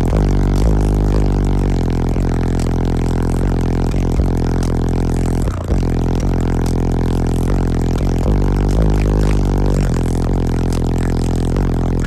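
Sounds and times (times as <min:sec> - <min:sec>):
bass-heavy music from subwoofer: 0:00.0 - 0:12.0.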